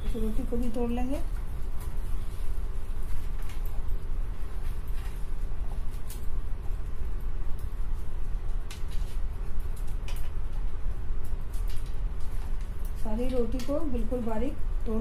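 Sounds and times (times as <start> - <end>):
dry crackles: 0.0 - 15.0.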